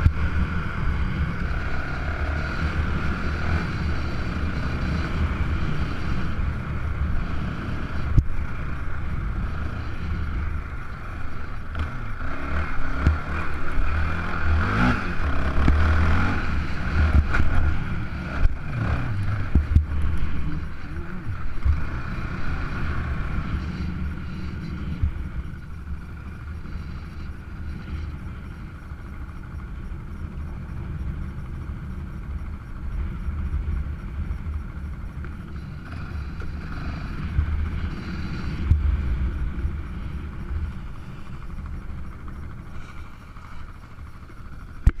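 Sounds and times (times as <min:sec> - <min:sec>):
quad bike engine rumbling: 0:00.0 - 0:45.0.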